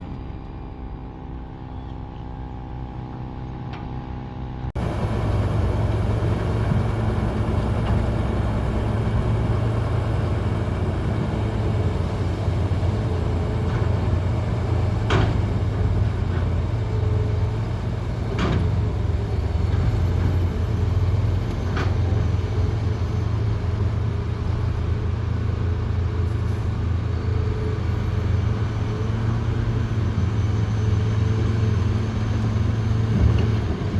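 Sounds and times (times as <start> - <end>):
heavy diesel machinery rumbling: 4.8 - 33.9.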